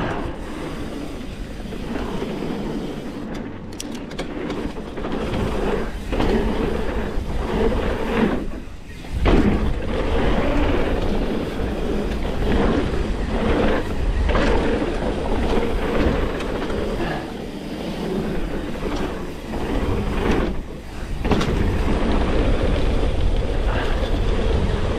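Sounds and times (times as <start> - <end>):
bike rattling: 0.0 - 24.9
bike tyres rolling over dirt: 0.0 - 24.9
wind rumbling on microphone: 0.0 - 24.9.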